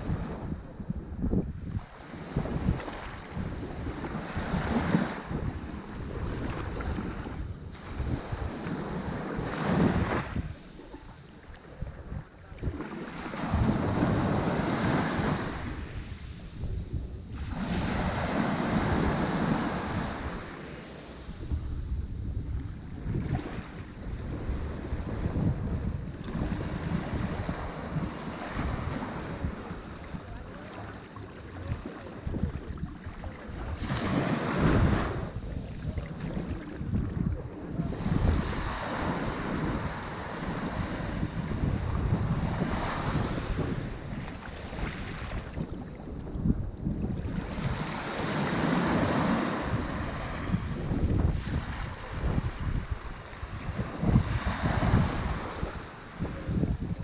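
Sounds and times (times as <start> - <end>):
wind on microphone: 0.0 - 57.0
ocean waves breaking: 1.7 - 57.0.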